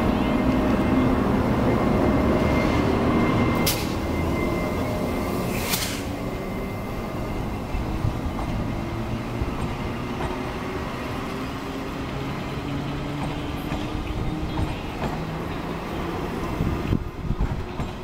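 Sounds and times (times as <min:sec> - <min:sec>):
electric locomotive hum and rumble: 0:00.0 - 0:18.0.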